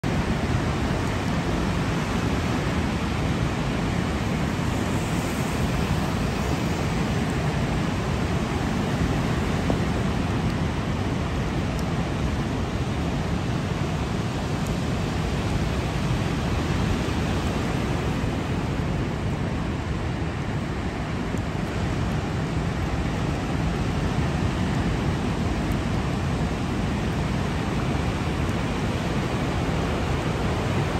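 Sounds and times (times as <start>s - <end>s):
heavy rain: 0.0s - 30.9s
rough storm surf roaring: 0.0s - 30.9s.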